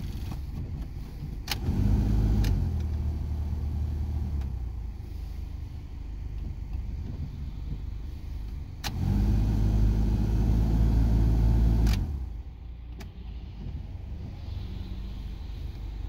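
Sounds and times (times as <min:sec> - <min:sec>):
low hum in car: 0:00.0 - 0:16.0.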